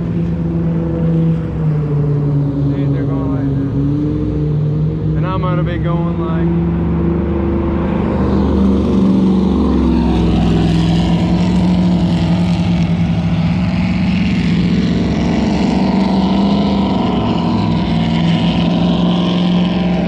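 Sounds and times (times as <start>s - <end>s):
motorboat engine running: 0.0s - 20.0s
rushing water: 0.0s - 20.0s.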